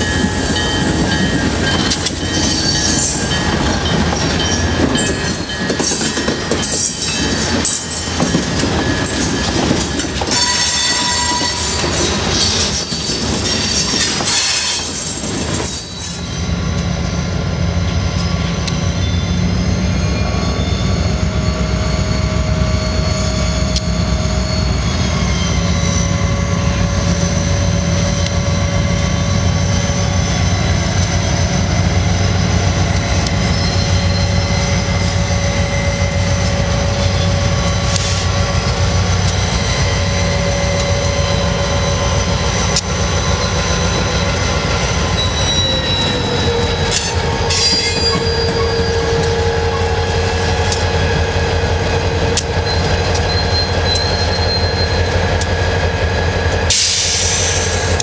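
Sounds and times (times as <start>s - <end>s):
diesel locomotives droning: 0.0s - 58.0s
train wheel squeal and clatter: 0.0s - 58.0s.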